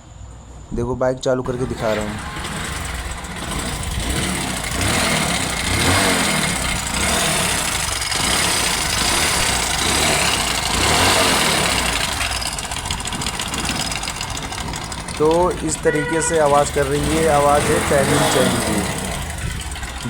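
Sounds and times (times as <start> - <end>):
motorcycle engine revving: 1.4 - 20.0
mechanical rattle inside engine: 1.5 - 20.0.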